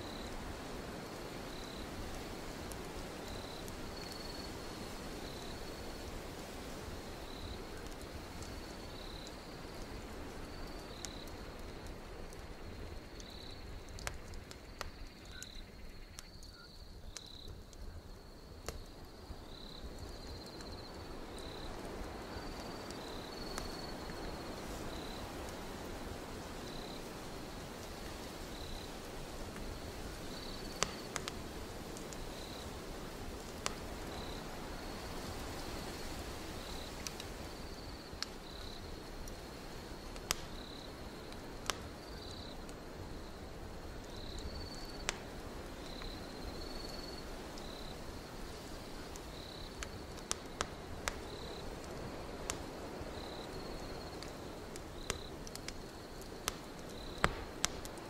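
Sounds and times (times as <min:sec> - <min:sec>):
cricket chirping: 0:00.0 - 0:02.2, 0:07.1 - 0:27.2, 0:27.8 - 0:31.4, 0:32.0 - 0:32.8, 0:33.7 - 0:58.0
wind hiss: 0:00.0 - 0:58.0
wood fire crackling and popping: 0:00.0 - 0:58.0.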